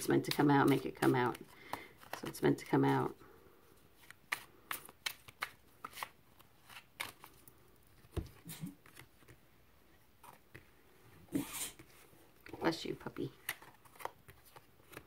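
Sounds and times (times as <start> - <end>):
cards being shuffled: 0.0 - 3.2, 3.8 - 15.0.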